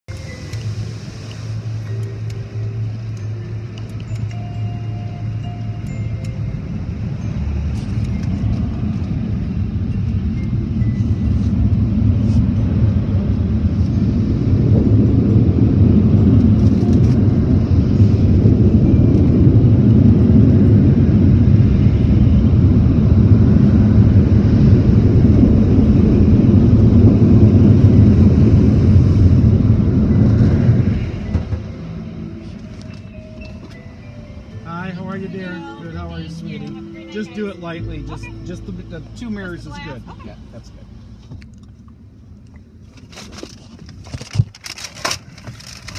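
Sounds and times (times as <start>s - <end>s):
car wash rumble heard from inside car: 0.1s - 45.9s.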